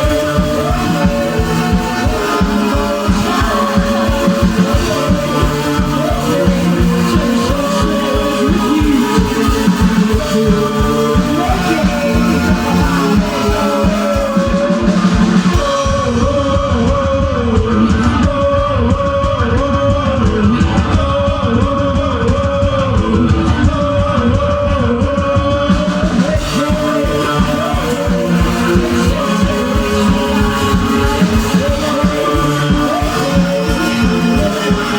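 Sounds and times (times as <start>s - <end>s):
pounding drum kit: 0.0s - 34.9s
rock band playing live: 0.0s - 34.9s.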